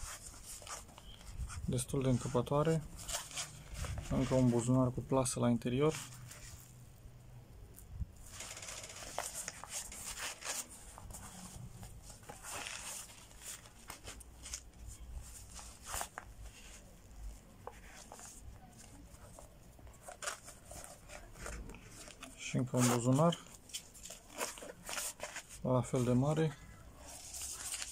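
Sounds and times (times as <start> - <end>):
fabric pouch rustling: 0.0 - 4.8, 5.8 - 6.8, 8.2 - 26.3, 27.0 - 27.9.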